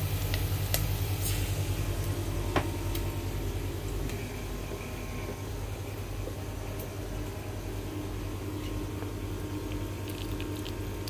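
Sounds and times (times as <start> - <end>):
fan humming with faint hiss: 0.0 - 11.0.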